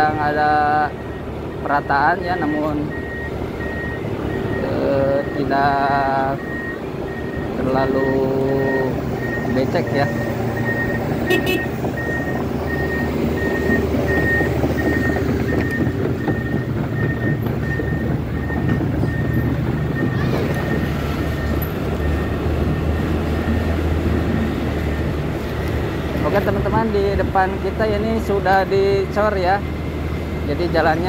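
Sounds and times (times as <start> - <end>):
excavator travel alarm beeping: 0.0 - 31.0.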